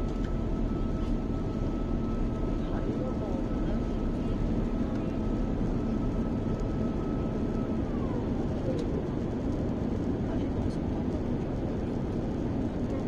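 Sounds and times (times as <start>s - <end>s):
airplane cabin roar: 0.0s - 13.0s.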